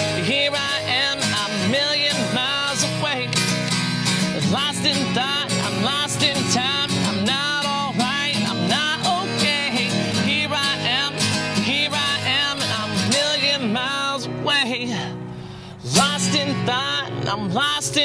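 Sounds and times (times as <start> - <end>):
man singing: 0.0 - 18.0
strummed acoustic guitar: 0.0 - 18.0.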